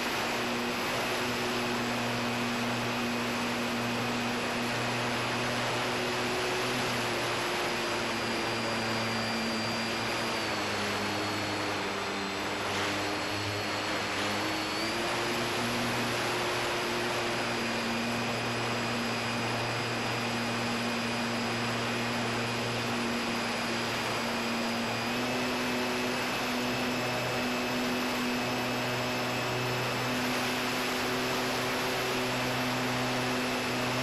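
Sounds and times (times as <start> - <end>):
electric motor and propeller hum: 0.0 - 34.0.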